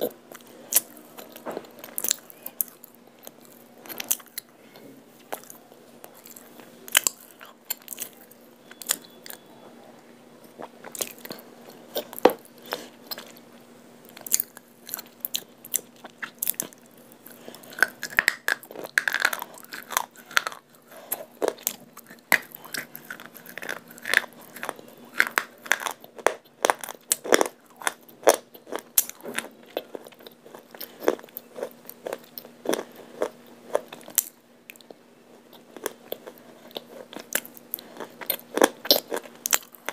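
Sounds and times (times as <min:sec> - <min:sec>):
person crunching and chewing: 0:00.0 - 0:04.6, 0:05.2 - 0:09.4, 0:10.5 - 0:39.9.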